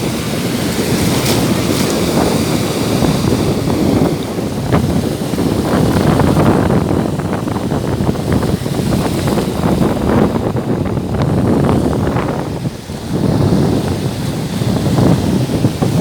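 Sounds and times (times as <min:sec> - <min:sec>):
waves breaking: 0:00.0 - 0:16.0
wind buffeting microphone: 0:00.0 - 0:16.0.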